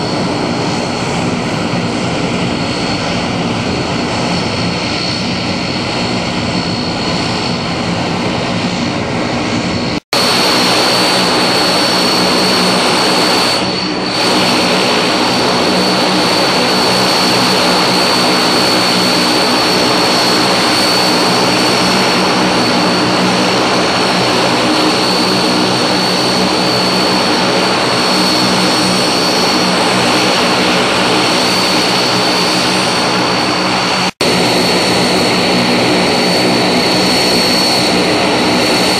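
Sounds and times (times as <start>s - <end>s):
high turbine whine: 0.0s - 38.9s
propeller drone: 0.0s - 38.9s.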